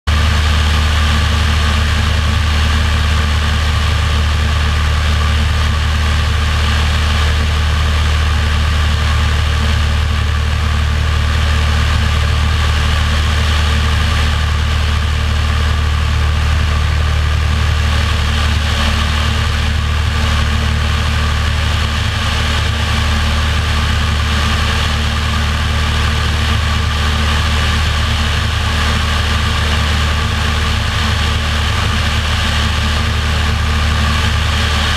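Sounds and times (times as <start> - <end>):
propeller airplane engine drone: 0.1 - 34.9.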